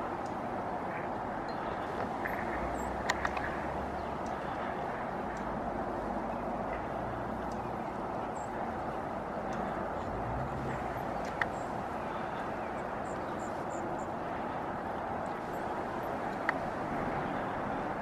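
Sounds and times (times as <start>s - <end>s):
outdoor hiss and hum: 0.0s - 18.0s.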